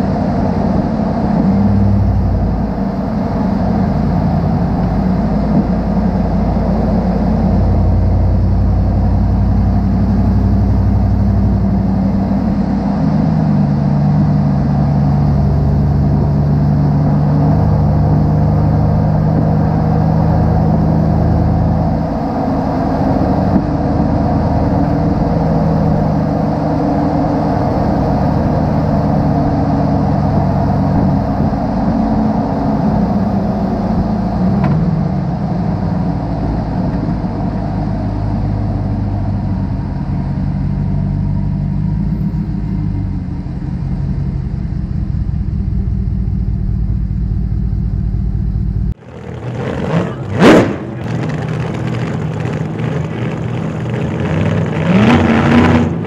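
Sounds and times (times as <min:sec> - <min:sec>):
exhaust drone: 0:00.0 - 0:56.0
loud rising sweep: 0:00.0 - 0:56.0
tyre and road noise: 0:00.0 - 0:56.0.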